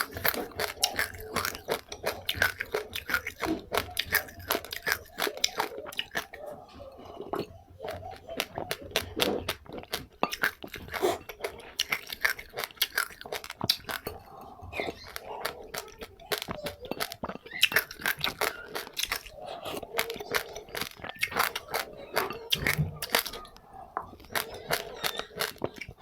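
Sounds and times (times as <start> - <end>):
person chewing crunchy seeds: 0.0 - 26.0
wet mouth sounds: 0.0 - 26.0.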